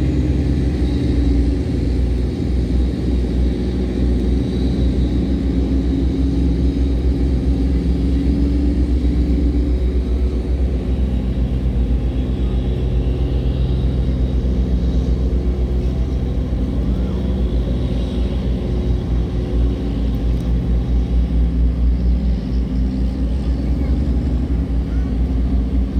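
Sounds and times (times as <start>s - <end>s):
tugboat diesel engines pulsing: 0.0s - 25.9s.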